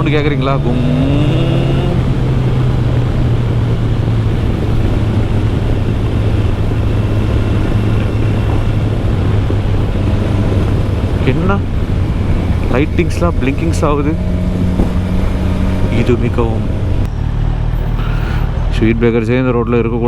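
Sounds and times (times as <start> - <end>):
wind noise: 0.0 - 17.1
motorcycle engine running: 0.0 - 18.7.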